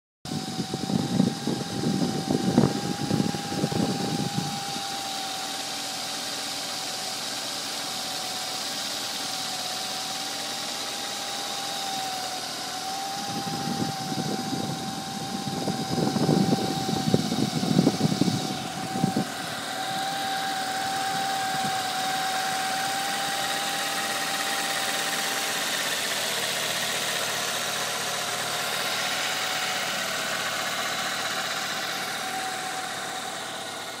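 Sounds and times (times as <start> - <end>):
car engine idling: 0.3 - 34.0.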